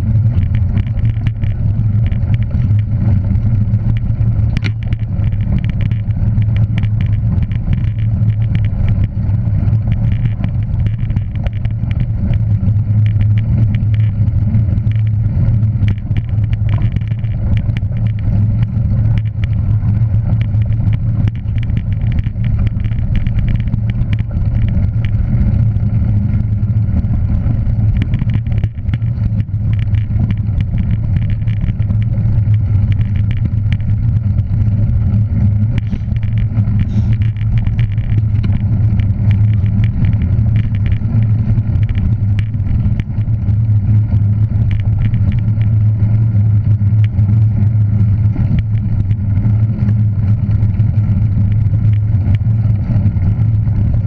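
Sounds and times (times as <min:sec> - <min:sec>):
vehicle engine and road drone: 0:00.0 - 0:54.0.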